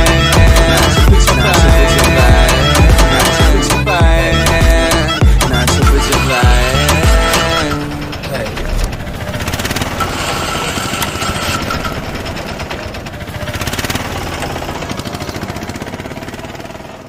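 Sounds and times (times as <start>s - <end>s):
vehicle engine chugging: 0.0s - 17.0s.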